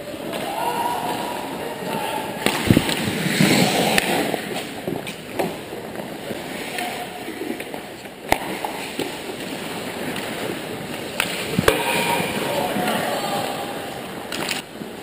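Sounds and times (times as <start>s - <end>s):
skate blades scraping ice: 0.0s - 15.0s
sticks and puck clacking: 0.1s - 14.8s.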